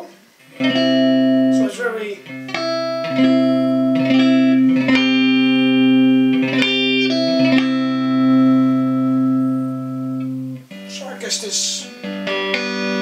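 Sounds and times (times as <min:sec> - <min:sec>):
electric guitar strummed: 0:00.0 - 0:13.0.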